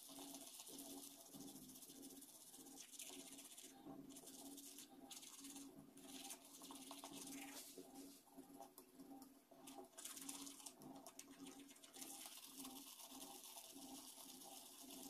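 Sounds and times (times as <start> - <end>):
toothbrush scrubbing teeth: 0.0 - 15.0.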